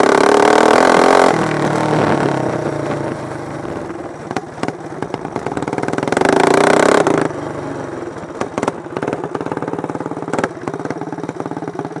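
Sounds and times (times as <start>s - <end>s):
racing lawn mower engines: 0.0s - 12.0s.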